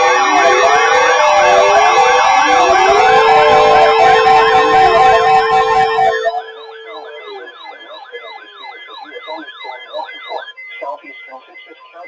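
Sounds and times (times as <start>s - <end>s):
siren falling sweeps: 0.0s - 10.7s
loud layered siren wail: 0.0s - 12.0s.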